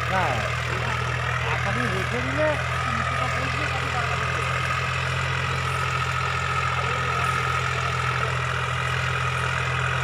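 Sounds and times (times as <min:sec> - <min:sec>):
tractor diesel engine idling: 0:00.0 - 0:10.0.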